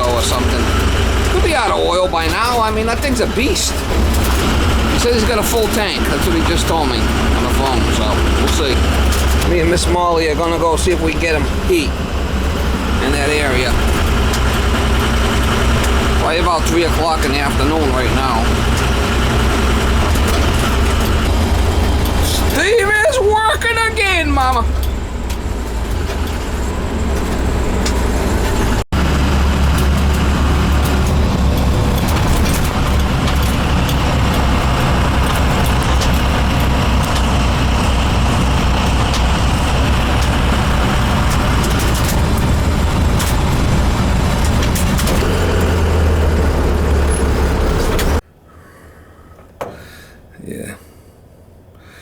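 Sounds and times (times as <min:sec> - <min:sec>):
engine and road noise: 0:00.0 - 0:52.0.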